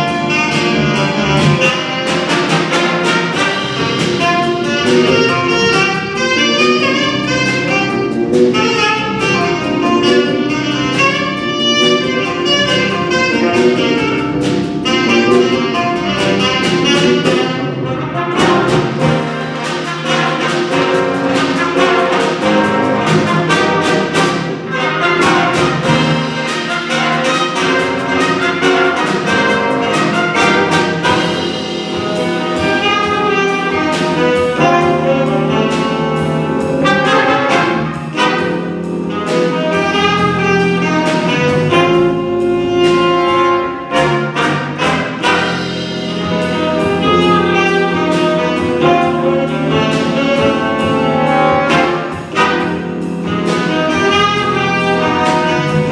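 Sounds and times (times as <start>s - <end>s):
drum kit beat: 0.0s - 55.9s
jazz big band playing: 0.0s - 55.9s
trumpets and trombones: 0.0s - 55.9s.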